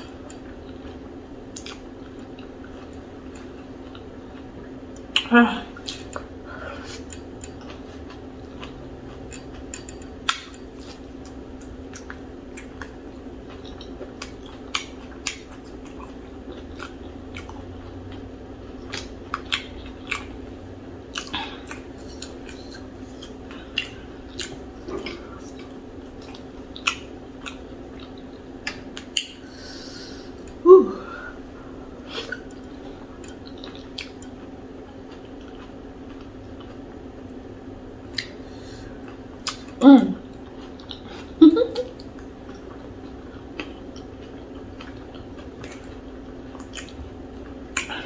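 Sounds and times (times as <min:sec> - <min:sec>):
wet chewing and lip smacks: 0:00.0 - 0:20.4, 0:21.1 - 0:29.4, 0:32.2 - 0:37.4, 0:38.0 - 0:38.4, 0:39.0 - 0:48.0.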